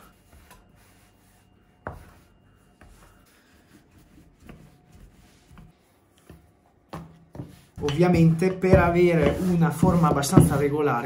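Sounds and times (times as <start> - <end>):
rolling pin rolling dough: 0.0 - 11.0.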